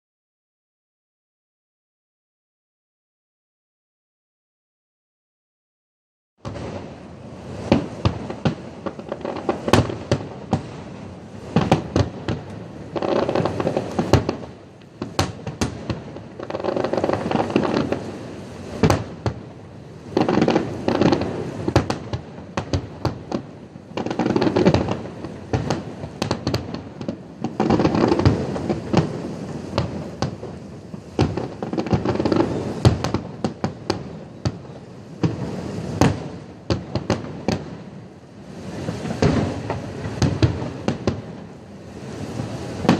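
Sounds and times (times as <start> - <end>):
fireworks bangs: 6.4 - 42.9
fireworks crackling: 6.4 - 42.9.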